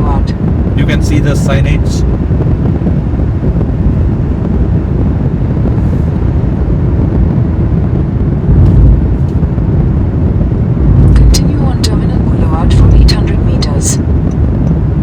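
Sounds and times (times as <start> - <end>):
vehicle road and wind noise: 0.0 - 15.0.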